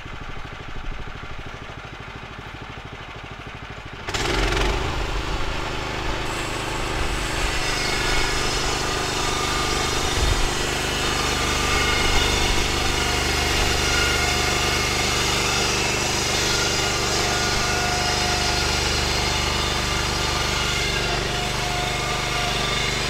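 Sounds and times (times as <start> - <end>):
sawmill engine running: 0.0 - 23.0
band blade cutting log: 4.1 - 23.0.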